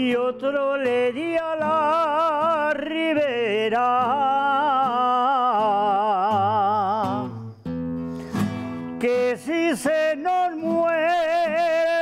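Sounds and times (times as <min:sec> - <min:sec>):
elderly man singing: 0:00.0 - 0:07.5, 0:09.0 - 0:12.0
acoustic guitar strumming: 0:00.0 - 0:12.0.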